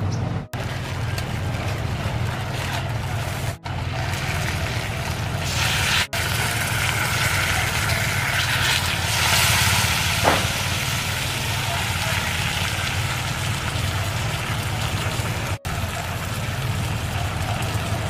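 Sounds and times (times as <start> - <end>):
low fire rumble: 0.3 - 18.0
chicken sizzling in wok: 0.6 - 18.0.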